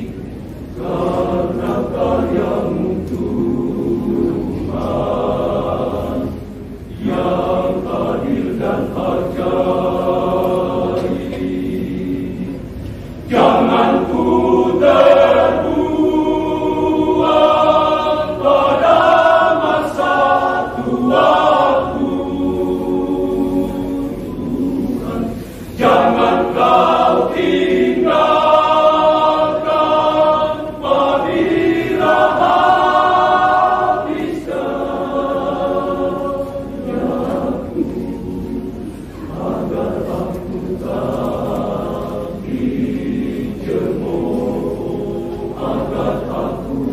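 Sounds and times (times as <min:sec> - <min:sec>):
male choir singing: 0:00.0 - 0:46.9.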